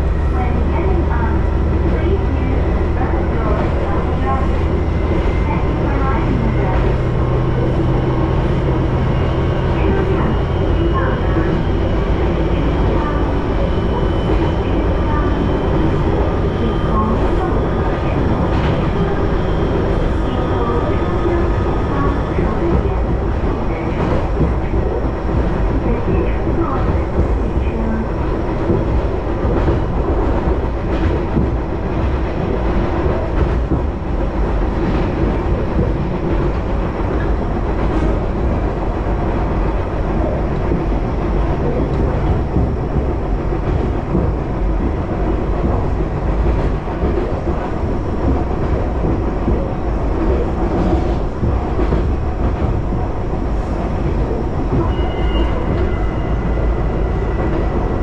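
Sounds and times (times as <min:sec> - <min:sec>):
diesel train rumbling: 0:00.0 - 0:58.0.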